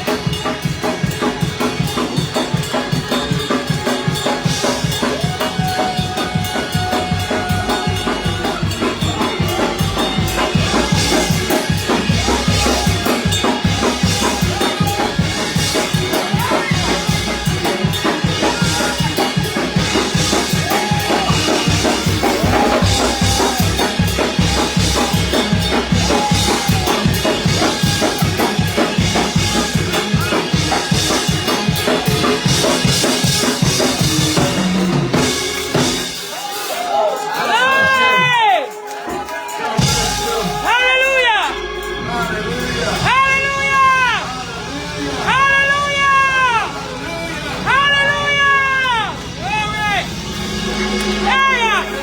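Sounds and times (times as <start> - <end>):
bass: 0.0 - 38.4, 39.8 - 52.0
drum kit beat: 0.0 - 52.0
fast church praise music: 0.0 - 52.0.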